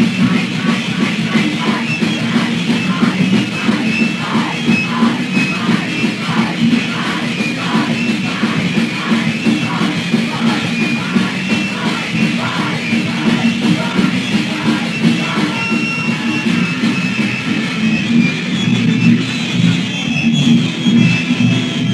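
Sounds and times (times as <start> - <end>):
shouted vocals: 0.0 - 18.1
distorted guitar bass and drums: 0.0 - 21.9.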